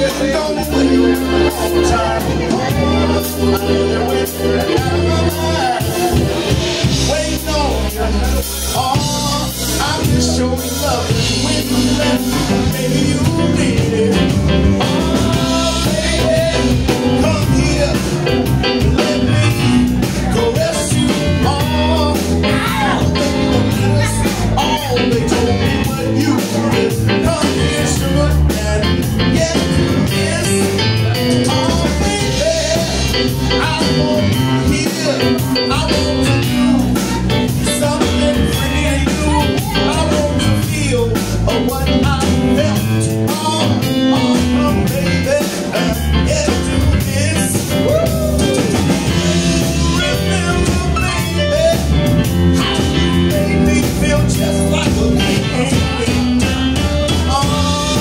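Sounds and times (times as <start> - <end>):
drum kit: 0.0 - 58.0
electric bass: 0.0 - 58.0
electric guitar: 0.0 - 58.0
man singing into microphone: 0.0 - 58.0.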